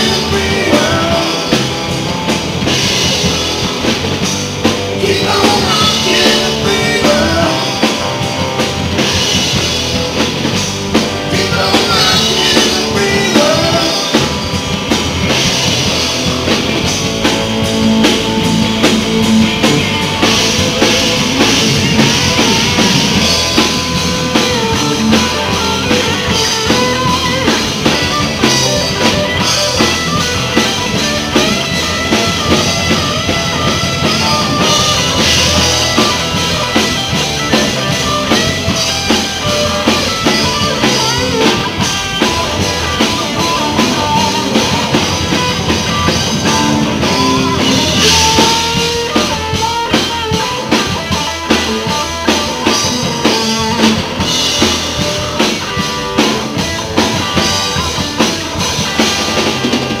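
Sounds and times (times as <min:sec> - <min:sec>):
blues-rock band playing: 0:00.0 - 1:00.0.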